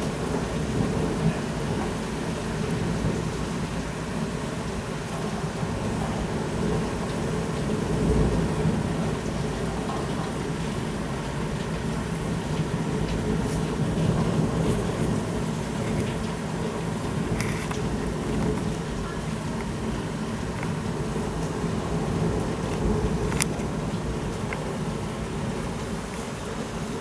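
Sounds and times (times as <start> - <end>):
heavy rain falling: 0.0 - 27.0
low rumble of thunder: 0.0 - 27.0.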